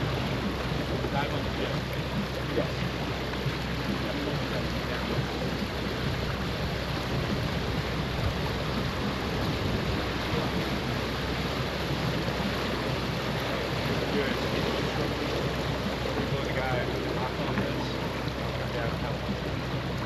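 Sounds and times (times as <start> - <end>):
water rushing: 0.0 - 20.0
wind: 0.0 - 20.0.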